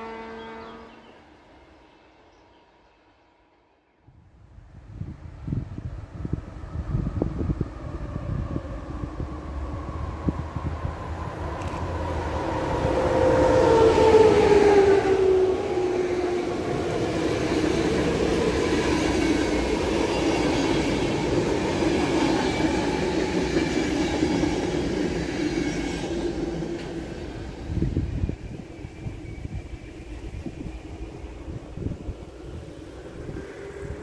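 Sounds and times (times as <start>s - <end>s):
electric locomotive whine passing: 0.0s - 3.5s, 4.3s - 34.0s.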